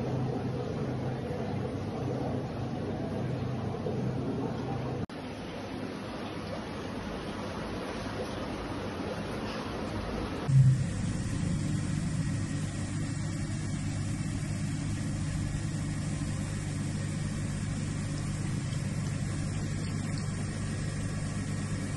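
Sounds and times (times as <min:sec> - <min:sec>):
low mechanical hum: 0:00.0 - 0:21.9.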